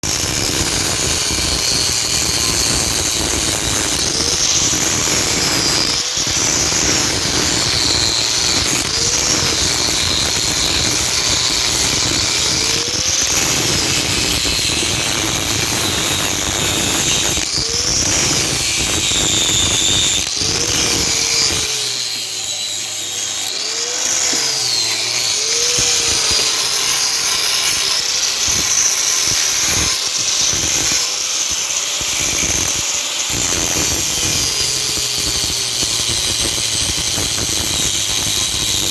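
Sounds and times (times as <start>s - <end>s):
power tool running harshly: 0.0s - 38.9s.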